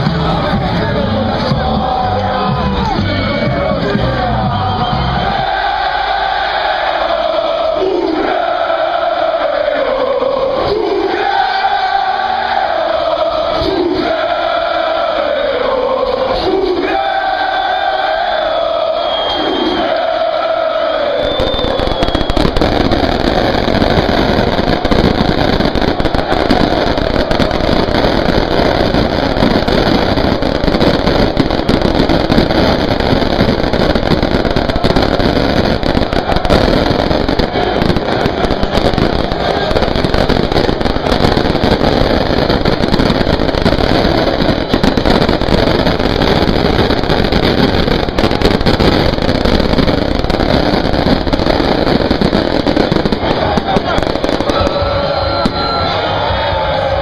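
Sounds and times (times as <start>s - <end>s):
football crowd singing and shouting: 0.0s - 57.0s.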